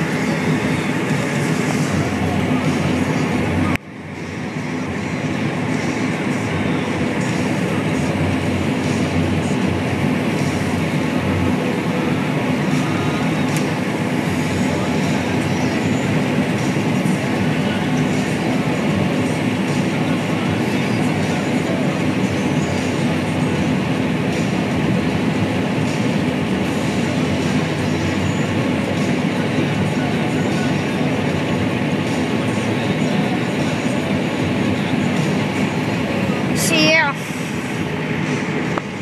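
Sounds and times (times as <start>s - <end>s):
combine harvester droning: 0.0s - 39.0s.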